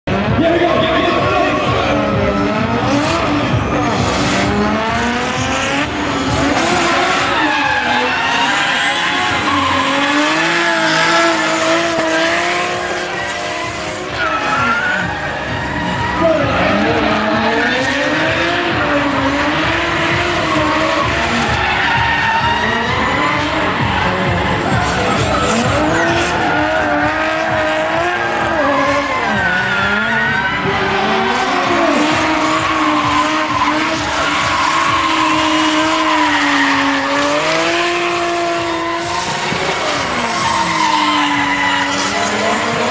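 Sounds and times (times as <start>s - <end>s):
car engines revving: 0.0s - 42.9s
tyres squealing: 1.5s - 42.9s.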